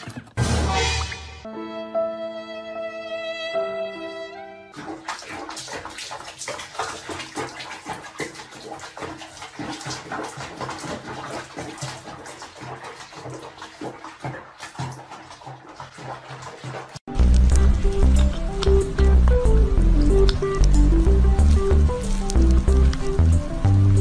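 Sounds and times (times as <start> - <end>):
bath water splashing: 4.7 - 24.0.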